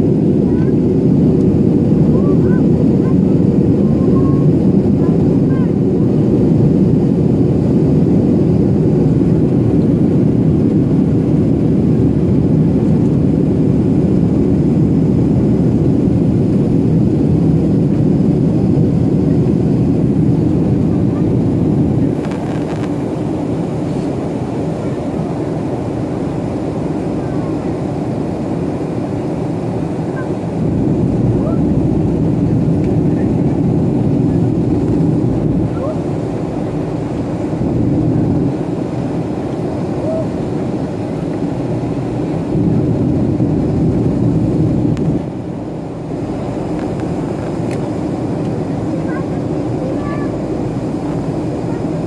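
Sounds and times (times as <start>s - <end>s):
jet engine cabin rumble: 0.0s - 52.0s.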